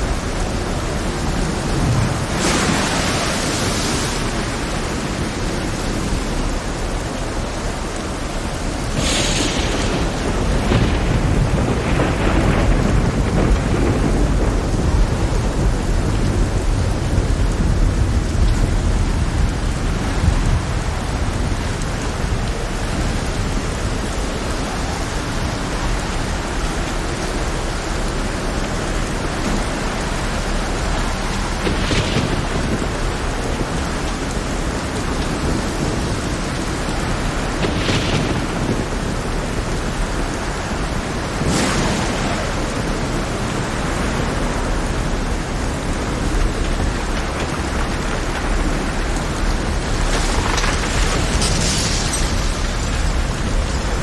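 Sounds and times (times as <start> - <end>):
thunder crashes: 0.0 - 6.3, 8.9 - 24.8, 28.7 - 54.0
rain hissing: 0.0 - 54.0
thunder rumbling: 0.0 - 54.0.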